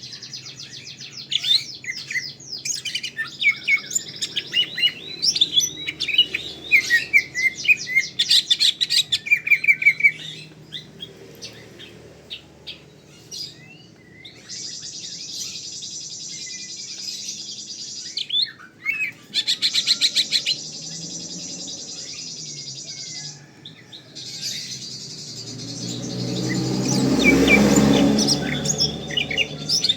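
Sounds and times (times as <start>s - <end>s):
bird chirping and trilling: 0.0s - 29.9s.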